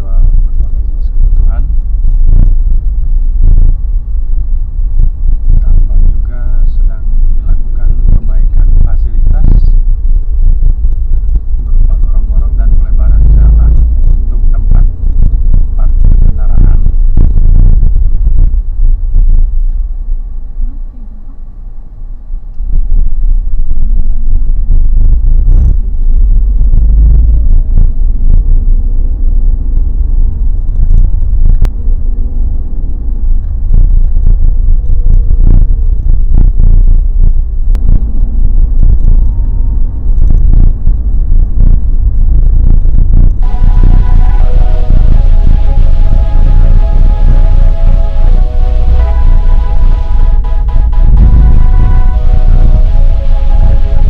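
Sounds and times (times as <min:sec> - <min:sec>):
engine and tyre rumble: 0:00.0 - 0:54.0.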